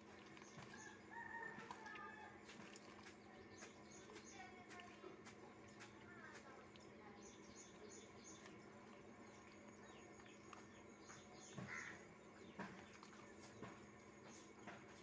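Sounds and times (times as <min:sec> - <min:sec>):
faint small bird chirps: 0:00.3 - 0:15.0.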